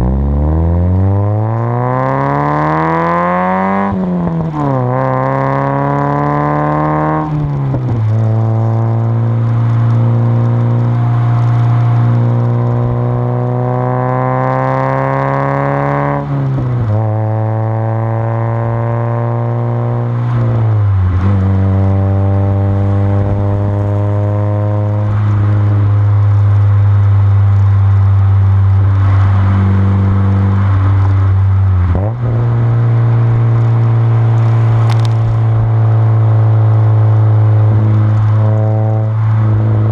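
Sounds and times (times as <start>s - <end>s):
car engine through loud exhaust: 0.0s - 39.9s.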